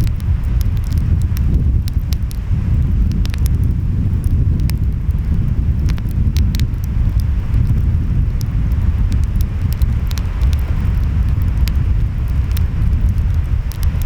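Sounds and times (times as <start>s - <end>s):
wind: 0.0s - 14.0s
wood fire crackling and popping: 0.0s - 14.0s.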